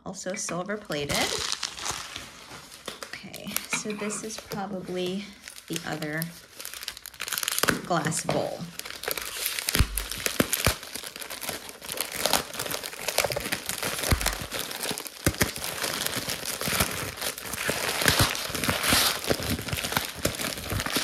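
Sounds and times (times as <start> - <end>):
plastic bag crinkling: 0.7 - 21.0.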